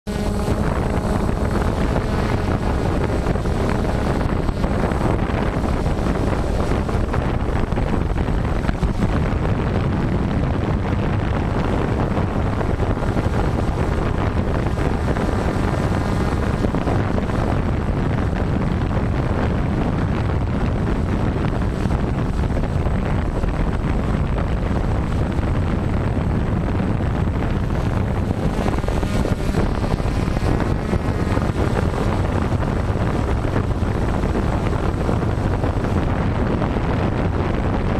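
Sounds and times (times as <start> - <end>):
drone motors and propellers: 0.1 - 37.9
wind buffeting microphone: 0.1 - 37.9.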